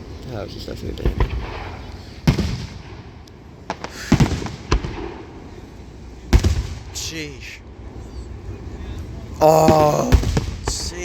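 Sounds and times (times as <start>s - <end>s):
distant fireworks bursting: 0.0s - 11.0s.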